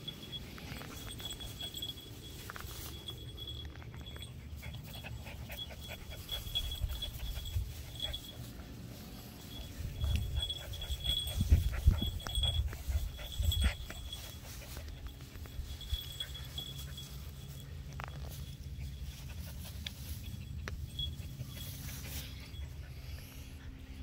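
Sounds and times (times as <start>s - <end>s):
puppies panting: 0.0s - 24.0s.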